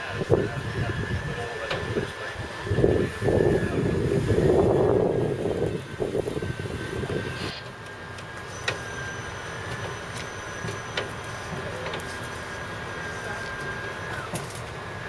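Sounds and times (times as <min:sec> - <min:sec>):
high whine: 0:00.0 - 0:15.0.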